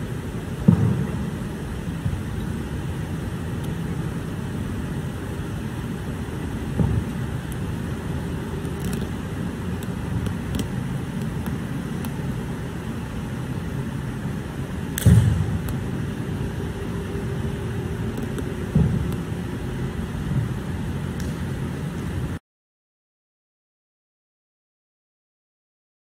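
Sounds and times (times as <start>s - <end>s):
room noise hiss: 0.0s - 22.4s.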